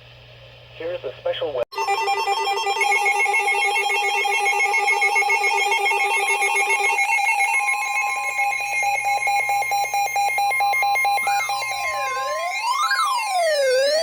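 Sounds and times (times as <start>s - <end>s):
steady high electronic tone: 1.7s - 14.0s
warbling electronic alert tones: 1.7s - 14.0s.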